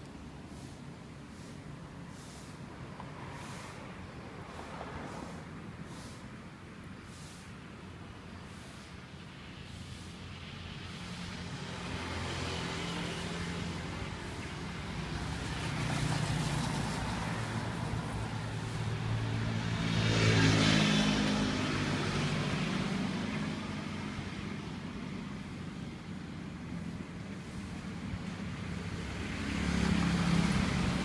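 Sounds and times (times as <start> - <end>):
passing vehicles: 0.0 - 31.0.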